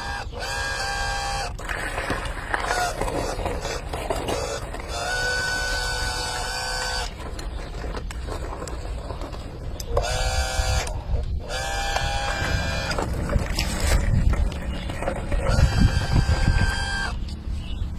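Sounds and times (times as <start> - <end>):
toy truck electric motor: 0.0 - 17.3.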